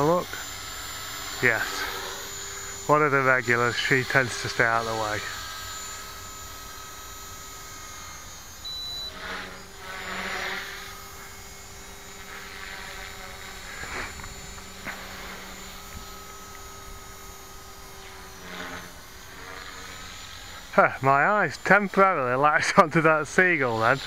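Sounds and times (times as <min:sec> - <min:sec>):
rc helicopter rotor whine: 0:00.0 - 0:24.0.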